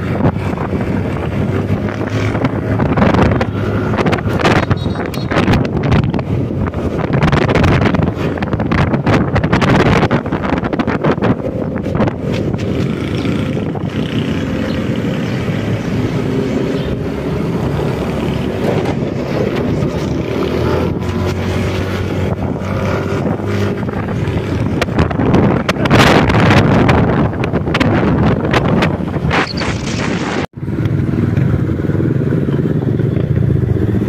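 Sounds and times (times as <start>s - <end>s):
motor scooter engine hum: 0.0s - 29.3s, 30.6s - 34.0s
road noise: 0.0s - 34.0s
wind buffeting microphone: 0.0s - 34.0s.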